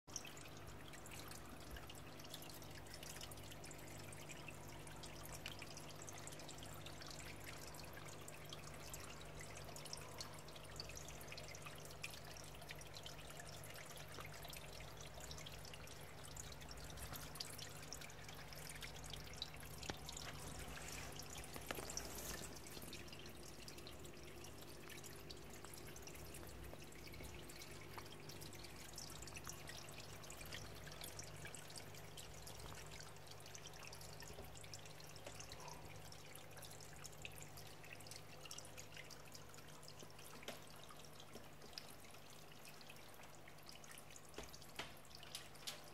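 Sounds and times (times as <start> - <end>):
water trickling and dripping: 0.0 - 45.9
low steady hum: 0.1 - 45.9.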